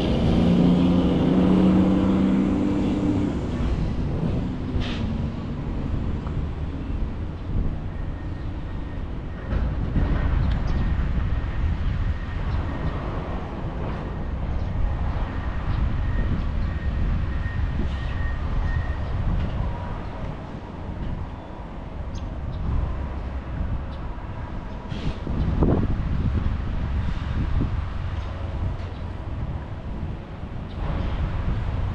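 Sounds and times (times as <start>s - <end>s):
diesel truck engine rumbling: 0.0s - 31.9s.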